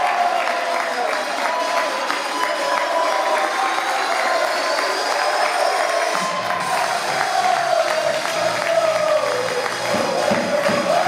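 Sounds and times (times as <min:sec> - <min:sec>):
crowd applauding and cheering: 0:00.0 - 0:11.0
music over stadium speakers: 0:00.1 - 0:11.0.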